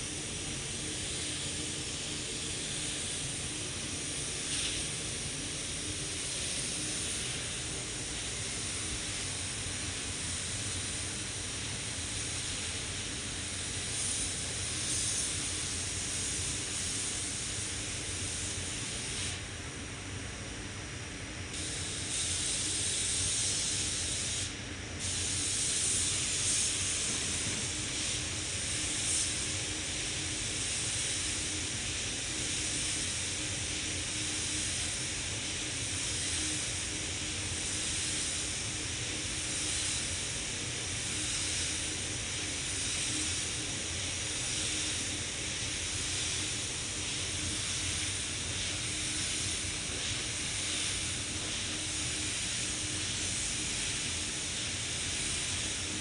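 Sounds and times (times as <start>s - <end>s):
spray gun hissing: 0.0s - 19.5s, 21.5s - 56.0s.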